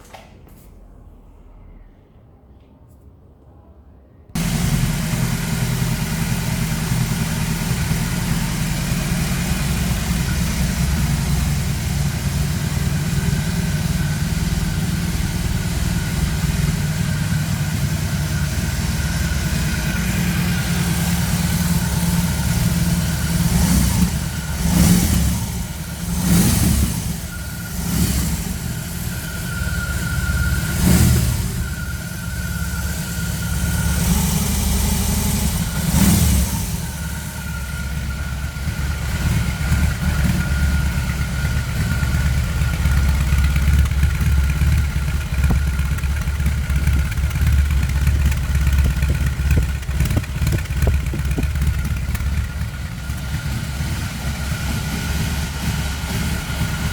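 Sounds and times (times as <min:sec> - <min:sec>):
motorcycle engine idling and revving: 0:04.4 - 0:56.9.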